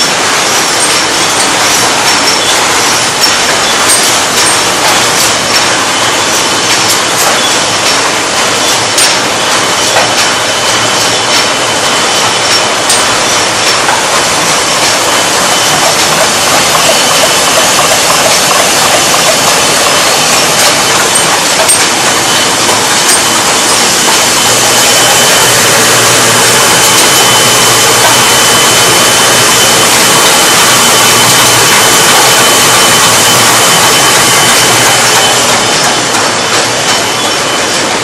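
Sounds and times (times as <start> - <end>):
machinery running: 0.0 - 38.0.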